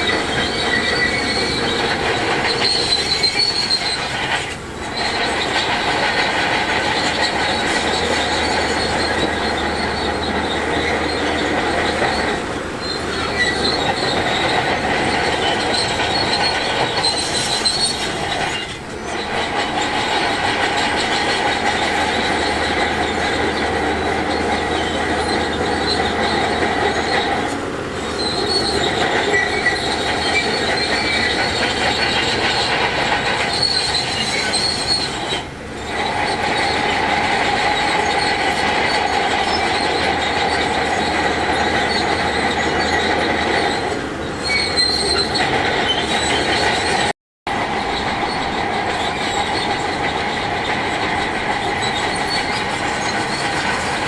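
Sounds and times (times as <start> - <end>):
steel tracks squealing and clattering: 0.0 - 54.0.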